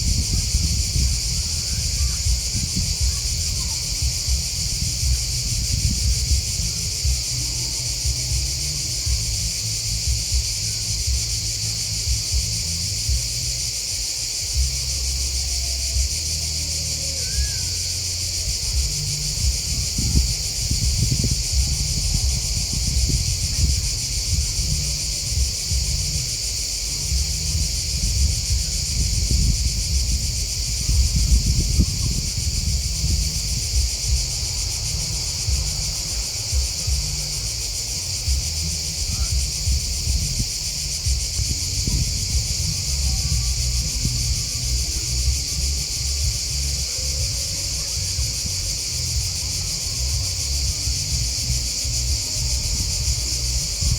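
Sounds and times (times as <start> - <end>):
low rumble: 0.0 - 13.8, 17.6 - 53.9
grasshoppers and crickets chirping: 0.0 - 53.9.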